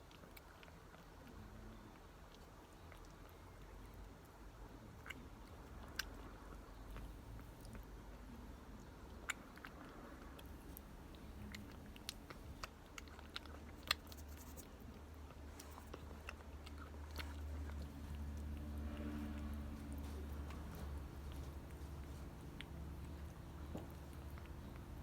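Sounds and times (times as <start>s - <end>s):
cat chewing food: 0.0s - 25.0s
low steady hum: 0.0s - 25.0s.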